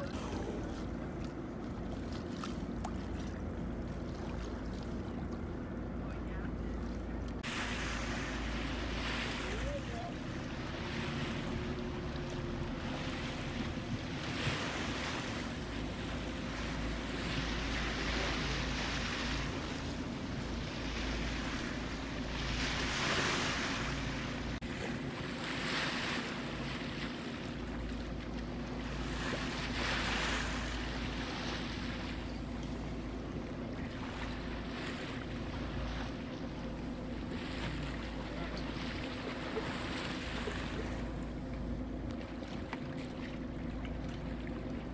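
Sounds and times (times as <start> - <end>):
boat engine hum: 0.0 - 44.9
sea washing against boat: 0.0 - 44.9.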